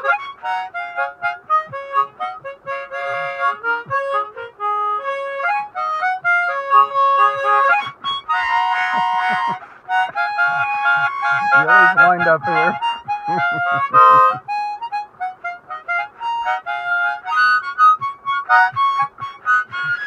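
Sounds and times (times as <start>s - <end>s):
harmonica playing slow tune: 0.0s - 20.0s.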